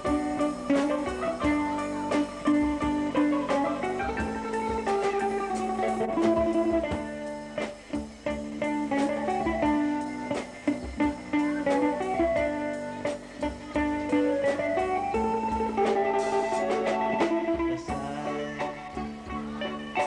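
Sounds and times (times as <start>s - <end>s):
held chords: 0.0s - 20.0s
plucked guitar melody: 0.0s - 20.0s.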